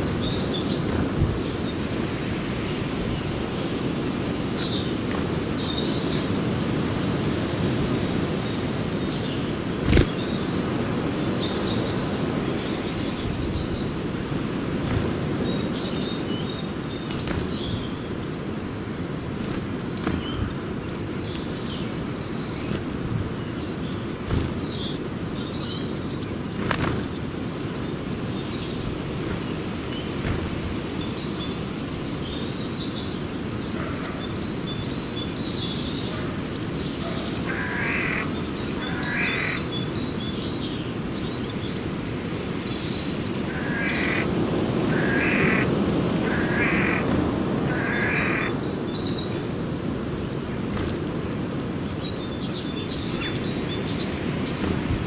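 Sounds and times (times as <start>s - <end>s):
bird calls: 0.0s - 3.5s, 4.1s - 7.3s, 9.1s - 31.6s, 32.3s - 55.0s.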